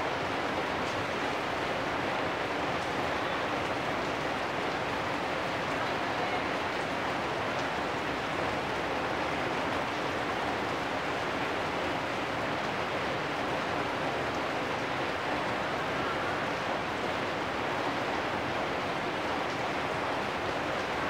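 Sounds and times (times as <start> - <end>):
rain on metal roofs: 0.0 - 21.0.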